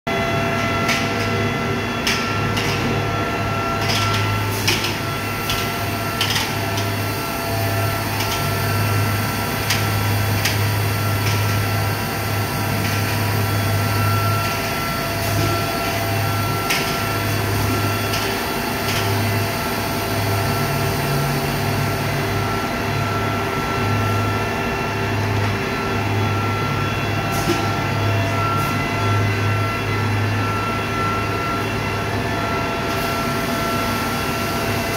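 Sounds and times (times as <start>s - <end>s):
machine low hum: 0.1s - 34.9s.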